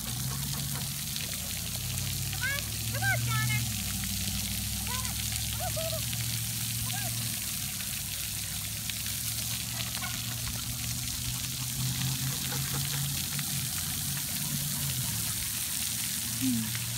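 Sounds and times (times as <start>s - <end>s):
water jets spraying: 0.0s - 16.9s.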